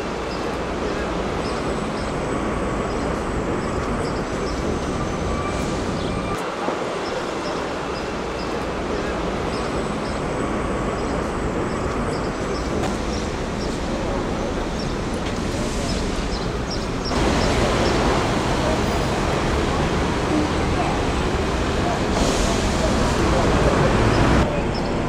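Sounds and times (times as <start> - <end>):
murmur of voices: 0.0 - 25.0
traffic rumbling: 0.0 - 25.0.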